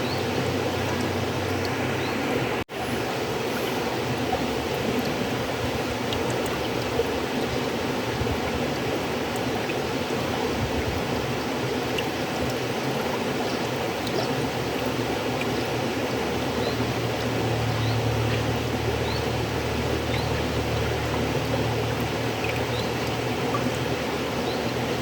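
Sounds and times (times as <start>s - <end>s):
river water flowing: 0.0s - 25.0s.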